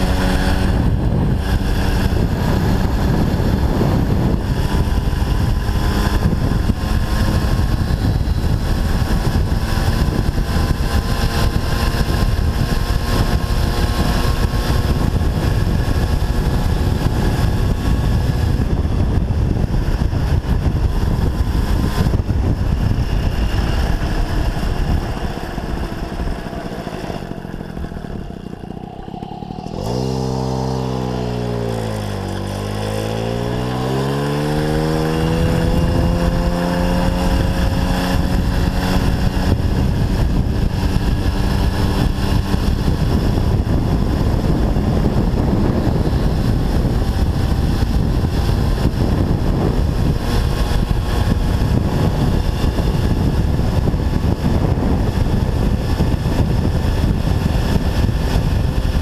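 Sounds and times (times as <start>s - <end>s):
moped engine: 0.0s - 59.0s
wind on microphone: 0.0s - 59.0s.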